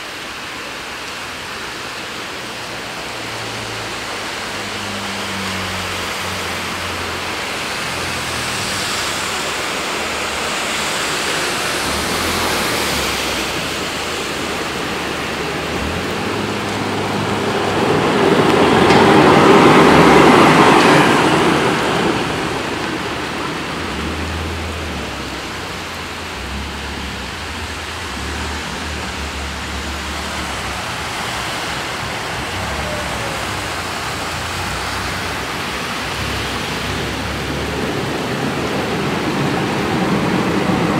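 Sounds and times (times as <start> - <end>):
floodwater rushing: 0.0 - 40.9
heavy downpour: 0.0 - 40.9.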